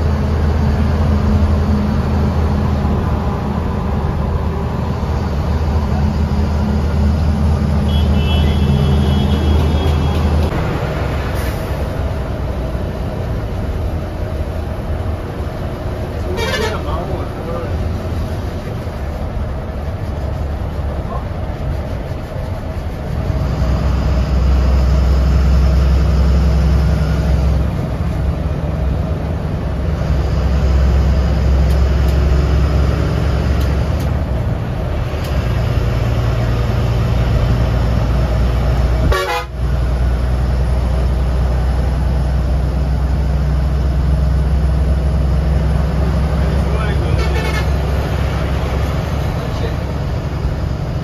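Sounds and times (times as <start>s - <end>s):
diesel bus engine under load: 0.0s - 51.0s.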